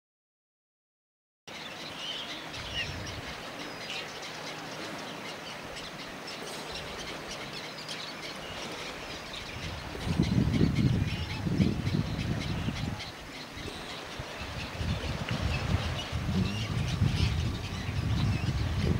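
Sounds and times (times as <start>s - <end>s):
gull chicks peeping: 2.0s - 18.9s.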